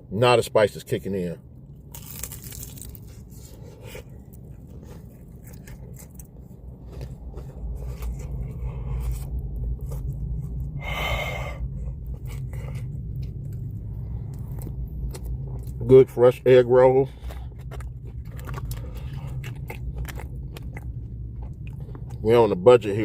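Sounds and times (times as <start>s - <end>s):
car engine humming: 1.3s - 23.0s
crunchy chewing: 1.7s - 15.9s, 17.0s - 22.6s.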